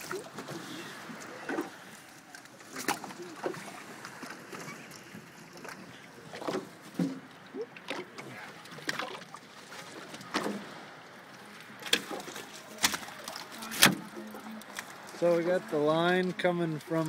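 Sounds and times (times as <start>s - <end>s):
sharp knocks and splashes: 0.0s - 10.9s, 11.6s - 14.8s
water lapping against a boat: 0.0s - 17.0s.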